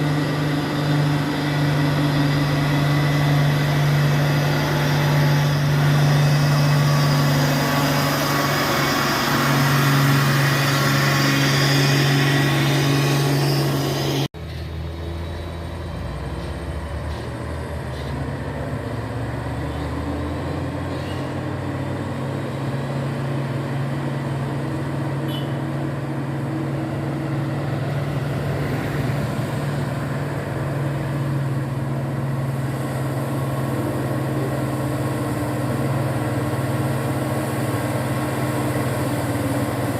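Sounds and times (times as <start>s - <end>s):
quieter engine sound: 0.0s - 39.9s
truck engine humming: 0.0s - 39.9s.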